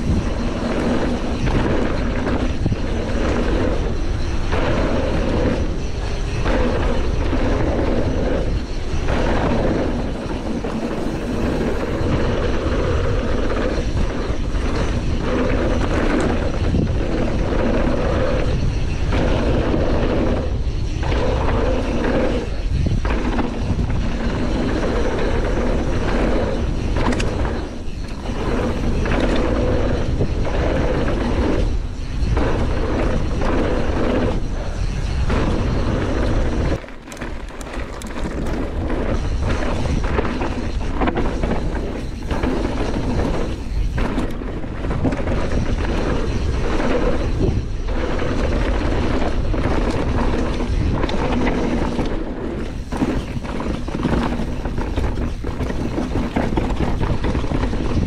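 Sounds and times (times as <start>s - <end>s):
bike rattling: 0.0s - 58.0s
tyres running over dirt trail: 0.0s - 58.0s
wind rushing over microphone: 0.0s - 58.0s.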